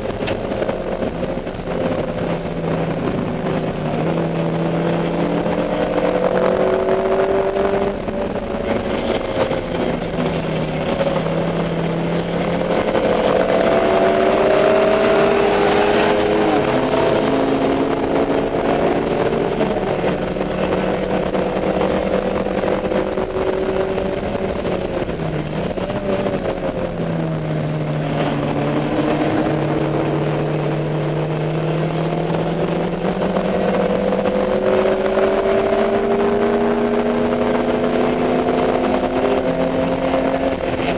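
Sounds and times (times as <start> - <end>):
race car engine at speed: 0.0 - 40.9.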